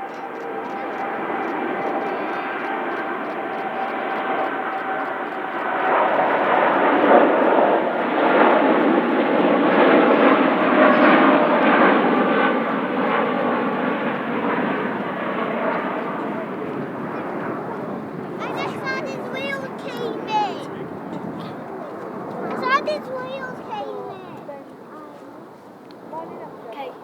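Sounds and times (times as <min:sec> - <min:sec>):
loud jet engine noise: 0:00.0 - 0:24.5.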